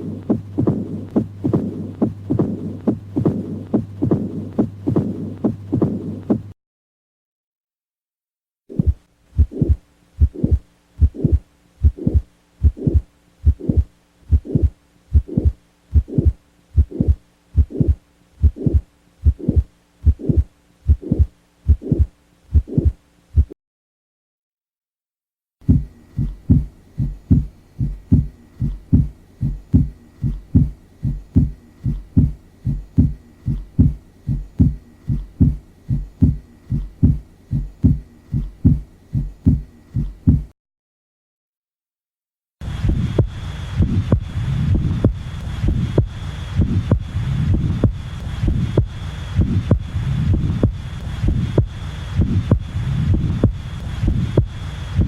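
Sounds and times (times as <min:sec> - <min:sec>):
faster heartbeat: 0:00.0 - 0:06.6, 0:08.7 - 0:23.6, 0:25.6 - 0:40.6, 0:42.6 - 0:55.0
heartbeat: 0:00.0 - 0:06.6, 0:08.7 - 0:23.6, 0:25.6 - 0:40.6, 0:42.6 - 0:55.0.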